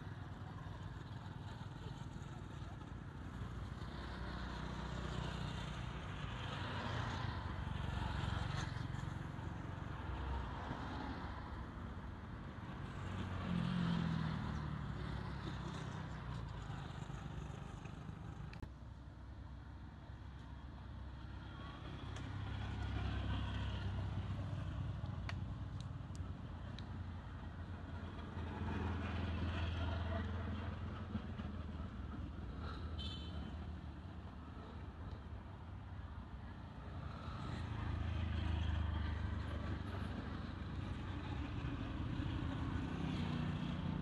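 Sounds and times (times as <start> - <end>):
cars and motorbikes passing: 0.0 - 18.7, 19.5 - 44.0.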